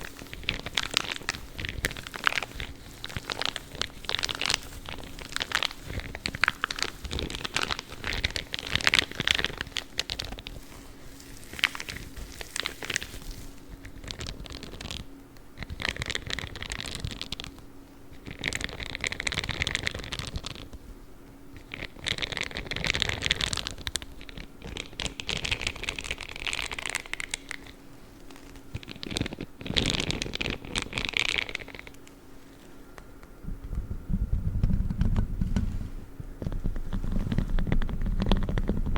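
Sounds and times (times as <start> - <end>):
gloves rubbed and scratched: 0.0 - 32.9, 33.5 - 38.9
faint steady hum: 0.0 - 38.9.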